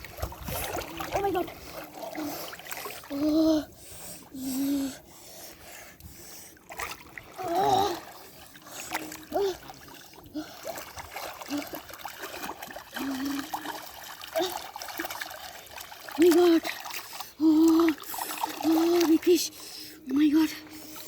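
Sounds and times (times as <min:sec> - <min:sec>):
pond water splashing: 0:00.0 - 0:21.0.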